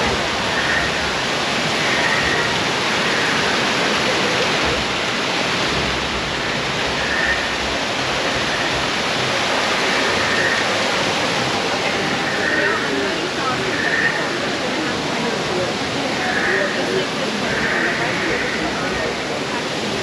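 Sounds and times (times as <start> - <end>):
waterfall pouring: 0.0 - 16.0.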